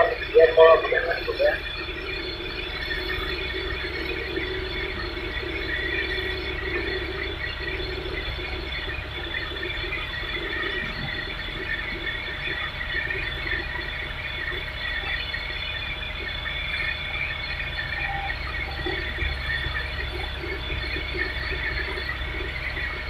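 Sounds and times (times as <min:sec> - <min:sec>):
excavator engine rumble: 0:00.0 - 0:23.0.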